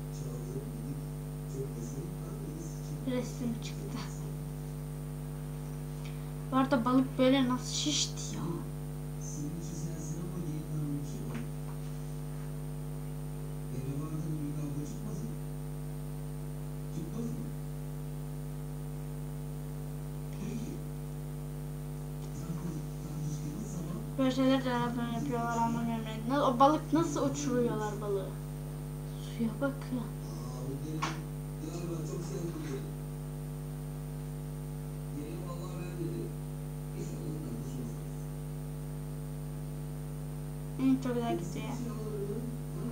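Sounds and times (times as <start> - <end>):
electrical mains hum: 0.0 - 42.9.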